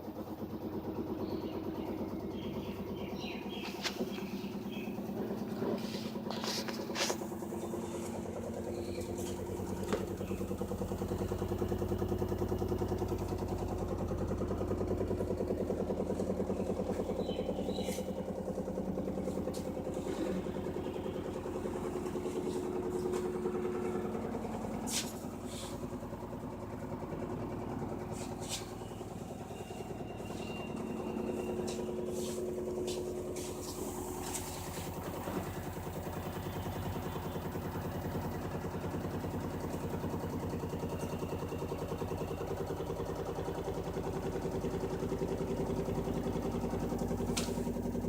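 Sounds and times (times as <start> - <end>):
washing machine motor hum: 0.0 - 48.0.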